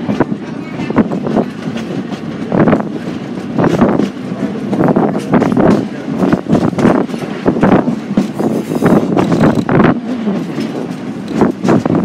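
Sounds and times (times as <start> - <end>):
rail car wheels clattering: 0.0 - 12.0
steady rumble: 0.0 - 12.0.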